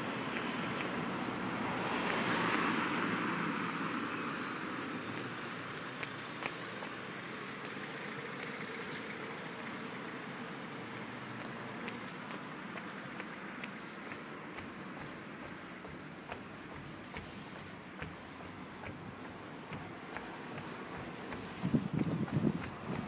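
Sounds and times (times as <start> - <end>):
traffic background hum: 0.0 - 23.0.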